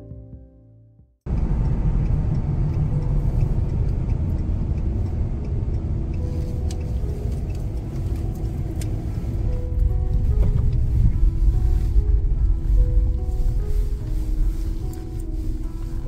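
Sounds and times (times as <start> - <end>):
vehicle driving on road rumble: 1.3 - 16.0.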